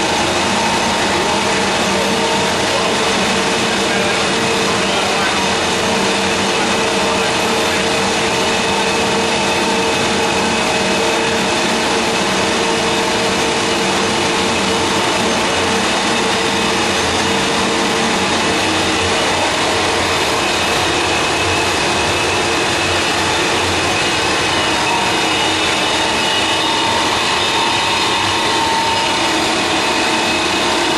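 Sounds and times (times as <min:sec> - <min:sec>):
paper machine din: 0:00.0 - 0:30.9
steady machine tones: 0:00.0 - 0:30.9.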